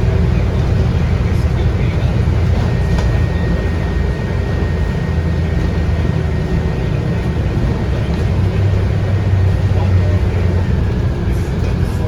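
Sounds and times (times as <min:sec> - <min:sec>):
bus diesel engine drone: 0:00.0 - 0:12.0
road noise: 0:00.0 - 0:12.0.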